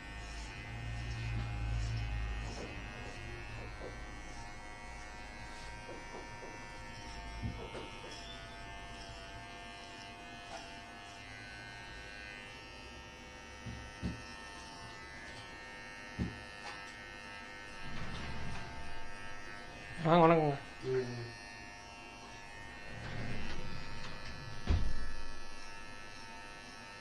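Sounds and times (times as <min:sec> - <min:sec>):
electric hair clipper buzzing: 0:00.0 - 0:27.0.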